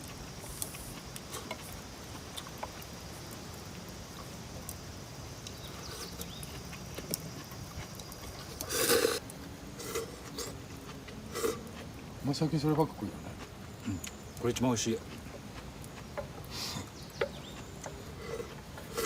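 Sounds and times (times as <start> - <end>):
faint hiss: 0.0 - 19.0.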